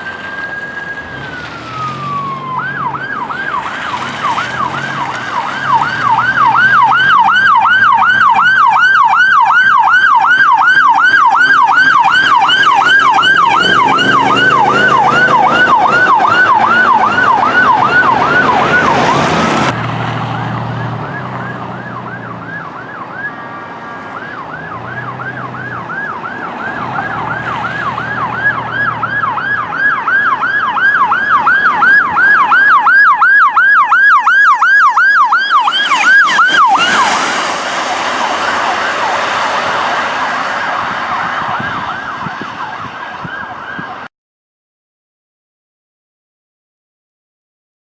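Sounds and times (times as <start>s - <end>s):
siren yelping: 0.0s - 19.7s, 20.8s - 44.1s
heavy engine noise: 0.0s - 33.2s, 35.2s - 42.8s.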